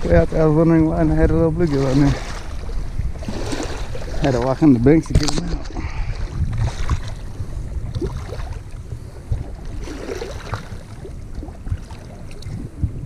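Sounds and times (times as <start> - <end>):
wind buffeting microphone: 0.0 - 13.0
small waves lapping on rocks: 0.1 - 12.6.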